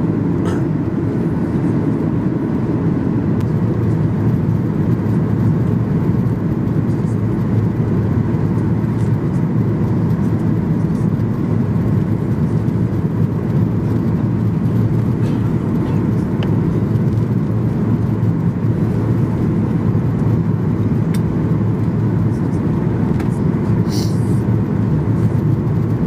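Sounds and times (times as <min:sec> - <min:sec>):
airplane cabin rumble: 0:00.0 - 0:26.0
faint steady whine: 0:00.0 - 0:26.0.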